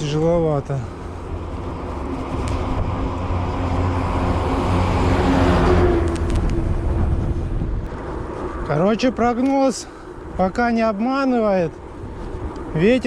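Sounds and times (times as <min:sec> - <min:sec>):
vehicle passing by: 0:00.0 - 0:10.6.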